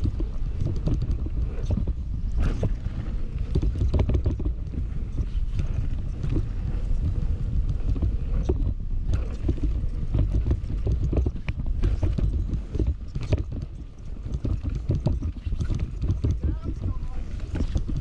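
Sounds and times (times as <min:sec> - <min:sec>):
bike rattling over bumps: 0:00.0 - 0:18.0
tyres rolling on dirt: 0:00.0 - 0:18.0
wind buffeting microphone: 0:00.0 - 0:18.0.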